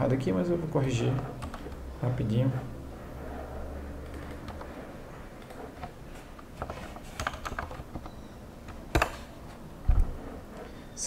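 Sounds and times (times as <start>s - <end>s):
keyboard typing: 0.9s - 2.2s, 3.2s - 10.8s.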